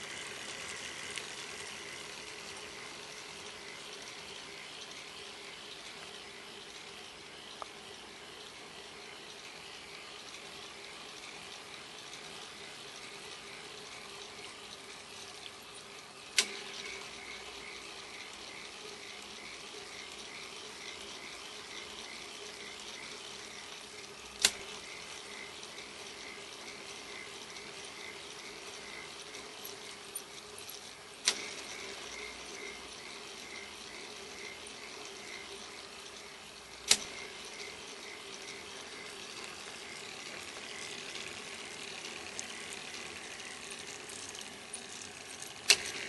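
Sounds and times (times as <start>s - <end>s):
plastic gears whirring: 0.0s - 46.0s
soft regular ticking: 0.0s - 46.0s.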